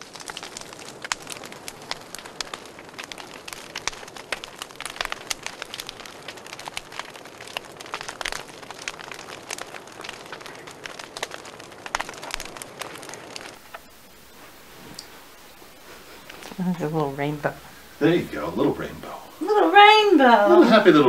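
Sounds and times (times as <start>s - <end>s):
fire crackling and popping: 0.0s - 21.0s
fire hissing: 0.0s - 21.0s.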